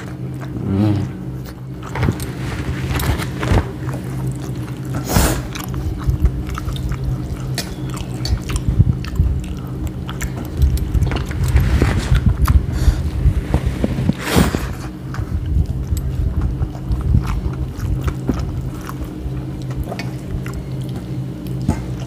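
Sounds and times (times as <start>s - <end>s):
steady low hum: 0.0s - 22.0s
wet chewing and lip-smacking: 3.0s - 13.6s, 14.8s - 22.0s.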